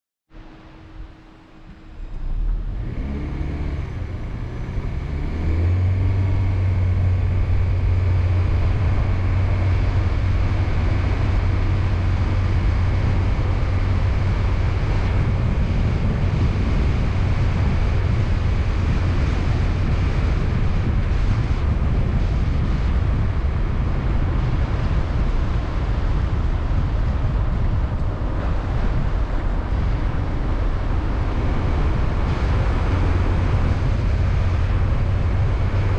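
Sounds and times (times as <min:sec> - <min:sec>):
car engine and tyre noise: 0:00.3 - 0:35.9
low drone: 0:00.4 - 0:35.9.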